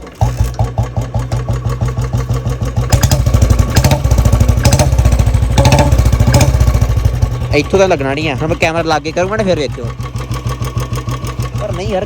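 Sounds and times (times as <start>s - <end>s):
motorcycle engine thumping: 0.0s - 12.0s.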